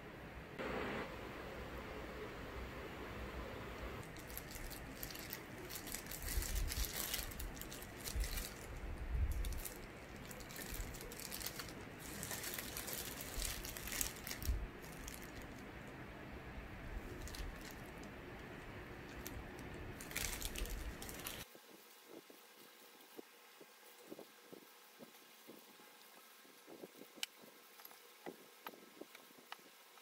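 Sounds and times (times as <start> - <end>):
plastic gloves crinkling: 4.0 - 16.1, 16.7 - 29.3.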